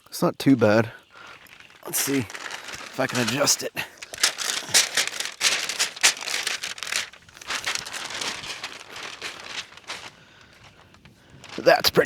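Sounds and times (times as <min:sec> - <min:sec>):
synthetic material rustling: 0:01.2 - 0:12.0.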